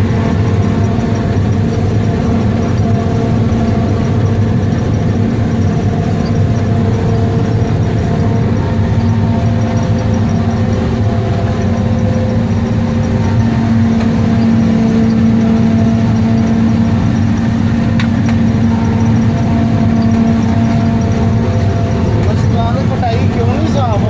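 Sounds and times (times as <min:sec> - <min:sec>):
harvester engine drone: 0:00.0 - 0:24.0.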